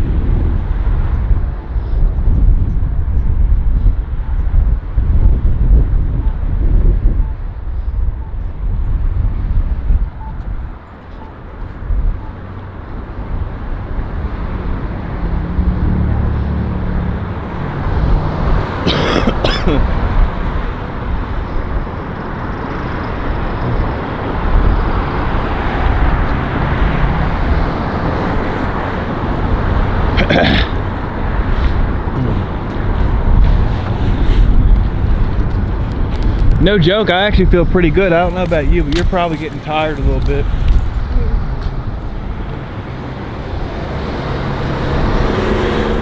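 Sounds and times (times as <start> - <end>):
road traffic passing: 0.0 - 46.0
wind buffeting microphone: 0.0 - 46.0.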